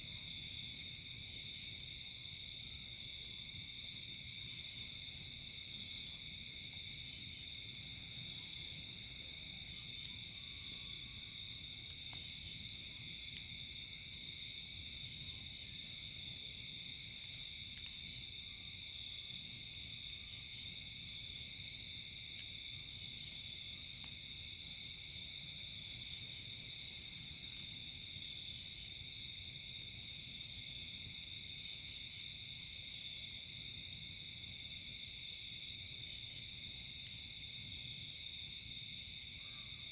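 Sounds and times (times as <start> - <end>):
campfire crackling: 0.0 - 39.9
crickets chirping: 0.0 - 39.9
insect pulses: 3.9 - 39.9.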